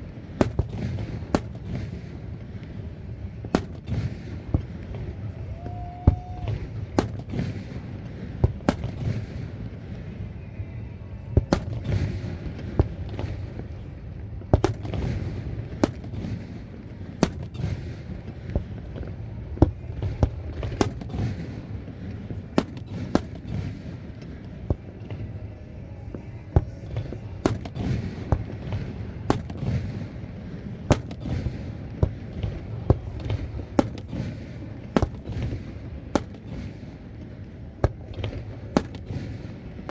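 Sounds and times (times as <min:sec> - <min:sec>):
fireworks bangs: 0:00.0 - 0:10.3, 0:11.4 - 0:25.3, 0:26.1 - 0:39.9
continuous low rumble: 0:00.0 - 0:39.9.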